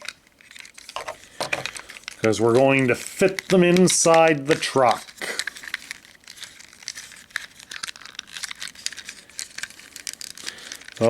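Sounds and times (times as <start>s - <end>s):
plastic toy parts clicking: 0.0s - 11.0s.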